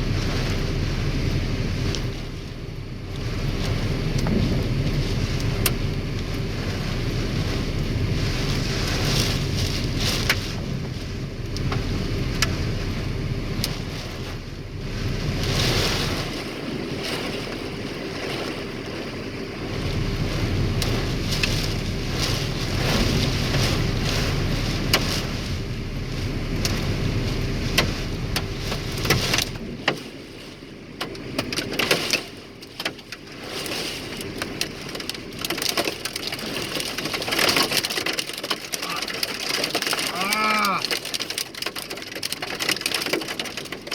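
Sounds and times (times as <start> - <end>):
wind rumble: 0.0 - 41.7
hailstones striking a vehicle: 0.0 - 43.9
running vehicle noise: 0.0 - 43.9.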